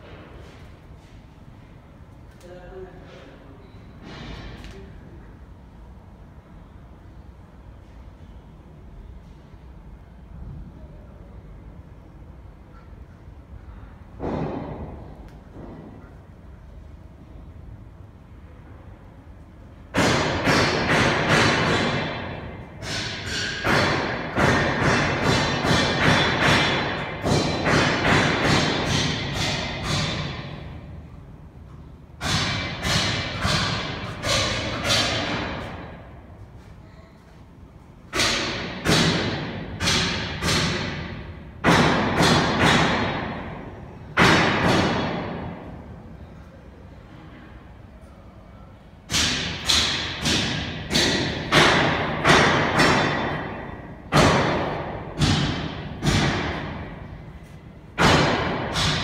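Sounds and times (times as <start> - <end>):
faint machine hum: 0.0 - 59.0.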